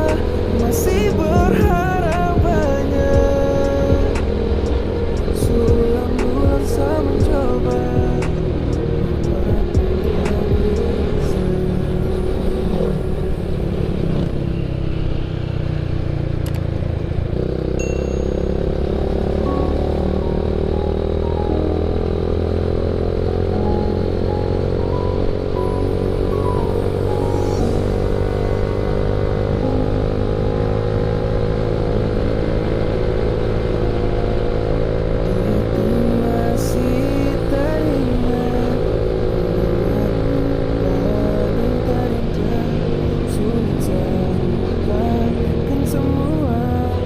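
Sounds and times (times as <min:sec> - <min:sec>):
motorcycle engine running: 0:00.0 - 0:11.2, 0:11.8 - 0:47.0
road noise: 0:00.0 - 0:47.0.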